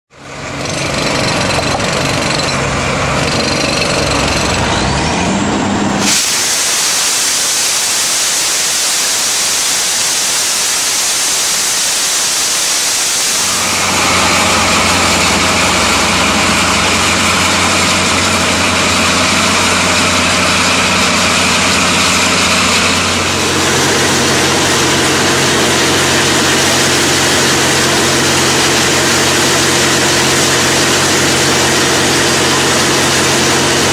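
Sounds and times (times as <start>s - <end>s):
truck engine and pump: 0.1s - 33.9s
loud water jet hiss: 6.0s - 20.4s, 21.0s - 33.9s.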